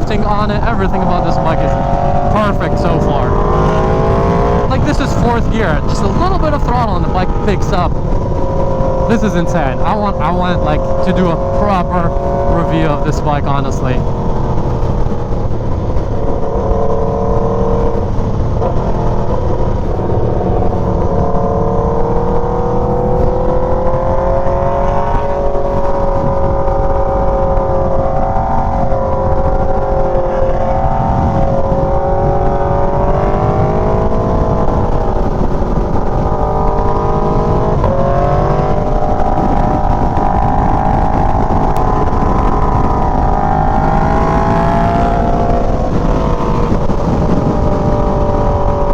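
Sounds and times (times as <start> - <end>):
low wind rumble: 0.0 - 48.9
motorcycle engine running: 0.0 - 48.9.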